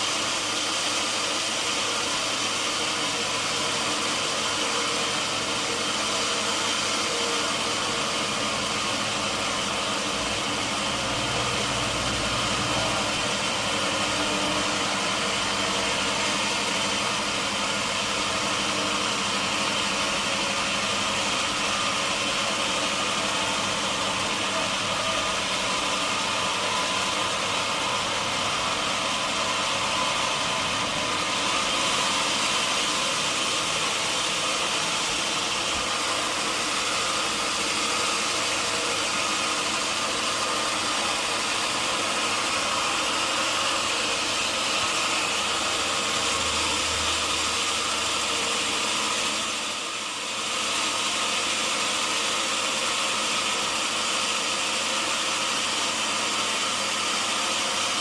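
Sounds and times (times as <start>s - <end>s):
high mechanical whine: 0.0s - 58.0s
sawmill machinery drone: 0.0s - 58.0s.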